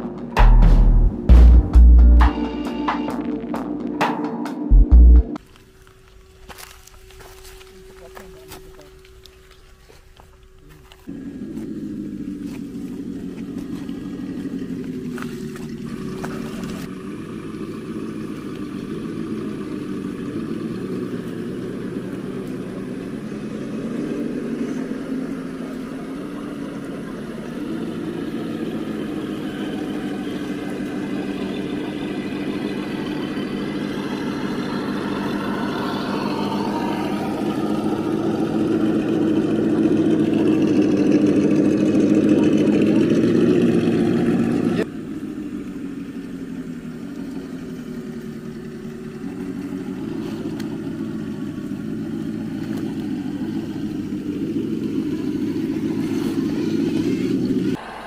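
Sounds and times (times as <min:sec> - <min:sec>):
rc truck drivetrain running: 0:07.9 - 0:58.0.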